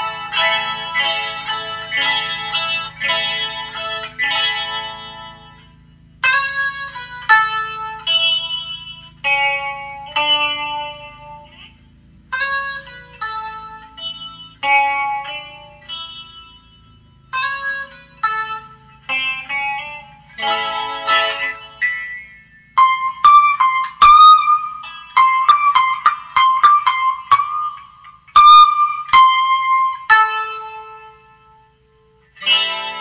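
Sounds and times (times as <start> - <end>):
electric ukulele through amp: 0.0 - 33.0.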